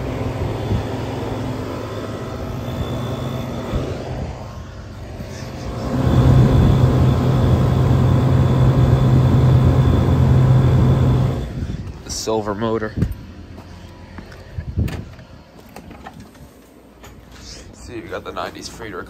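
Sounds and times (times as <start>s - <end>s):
air conditioner humming: 0.0s - 19.0s
faint steady whine: 0.0s - 19.0s.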